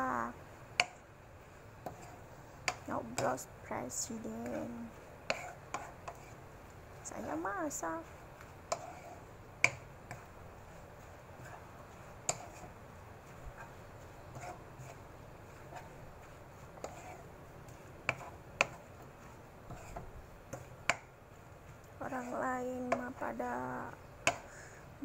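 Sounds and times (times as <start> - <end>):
spatula scraping a pan: 1.8 - 6.5, 7.2 - 24.5.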